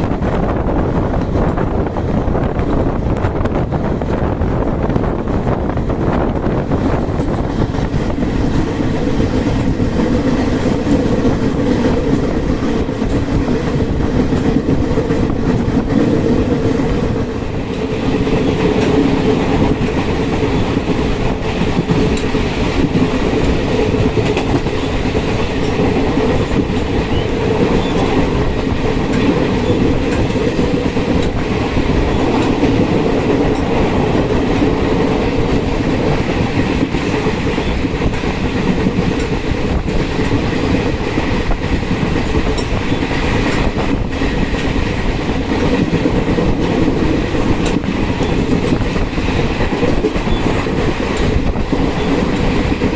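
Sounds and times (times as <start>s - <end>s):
clickety-clack of rail joints: 0.0s - 52.9s
train wheels rumbling on rails: 0.0s - 52.9s.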